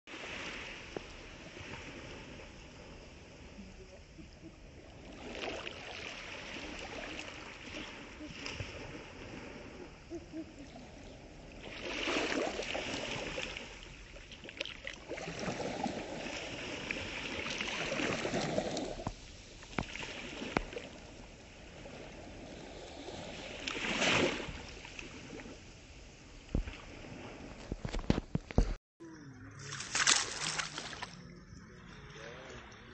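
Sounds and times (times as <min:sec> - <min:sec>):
surf washes: 0:00.1 - 0:28.7
small waves lapping on shore: 0:00.1 - 0:28.8, 0:29.6 - 0:32.9.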